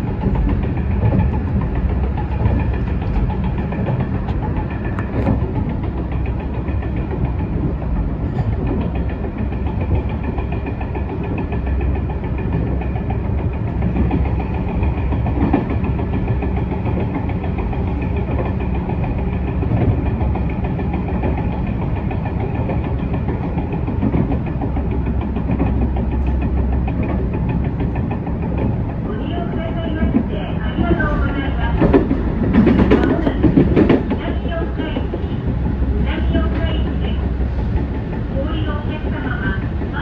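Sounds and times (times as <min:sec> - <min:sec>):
train running noise: 0:00.0 - 0:40.0.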